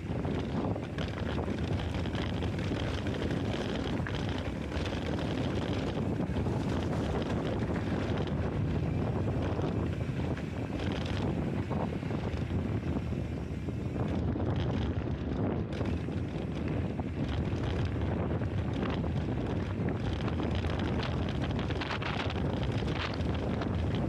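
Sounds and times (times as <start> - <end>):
bike tyres rolling on dirt: 0.0 - 24.0
wind rushing over microphone: 0.0 - 24.0.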